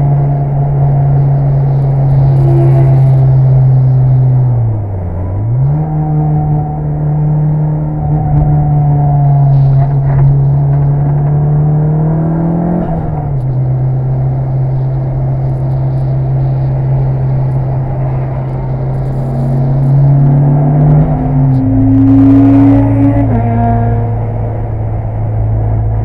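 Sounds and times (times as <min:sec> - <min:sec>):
turbocharged engine accelerating: 0:00.0 - 0:26.0.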